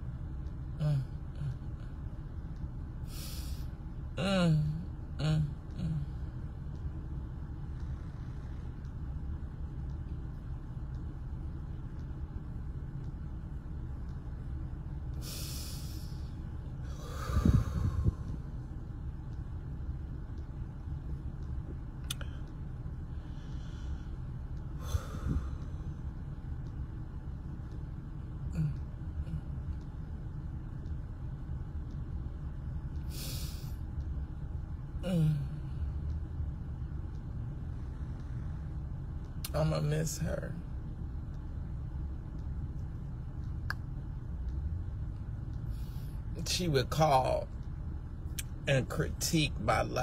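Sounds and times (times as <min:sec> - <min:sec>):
low rumble of car cabin: 0:00.0 - 0:50.0.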